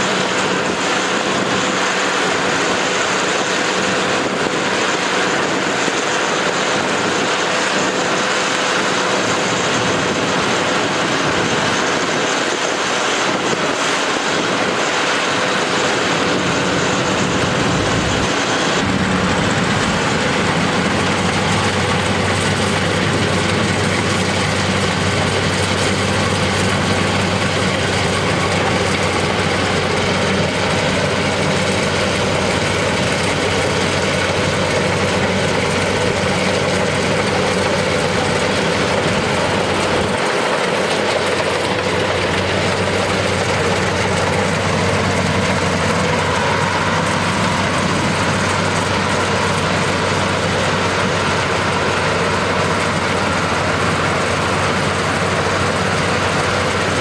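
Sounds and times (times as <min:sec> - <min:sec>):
diesel engine humming: 0:00.0 - 0:57.0
harvester mechanical rush: 0:00.0 - 0:57.0.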